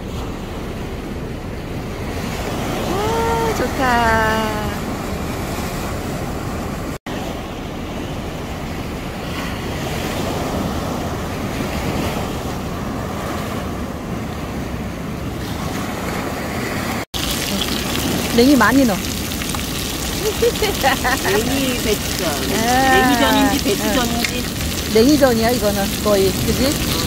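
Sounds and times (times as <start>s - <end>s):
surf breaking against seawall: 5.3s - 27.0s.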